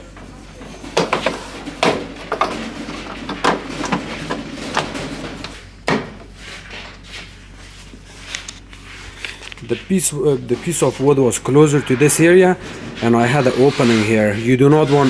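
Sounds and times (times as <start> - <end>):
plastic scraping and rubbing: 0.0 - 15.0.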